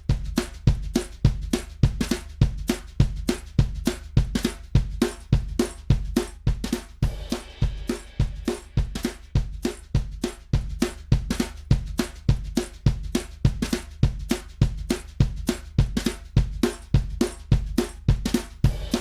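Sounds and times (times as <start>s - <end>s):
drum kit groove: 0.0s - 19.0s.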